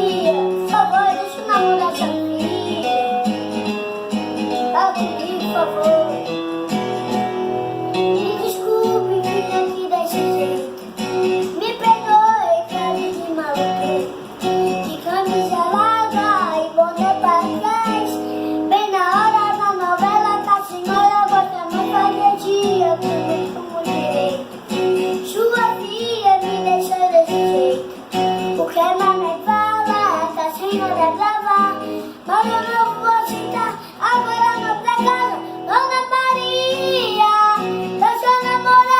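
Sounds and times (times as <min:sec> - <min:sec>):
child singing: 0:00.0 - 0:03.4, 0:04.5 - 0:06.4, 0:08.0 - 0:27.9, 0:28.5 - 0:38.9
plucked acoustic guitar: 0:00.0 - 0:38.9.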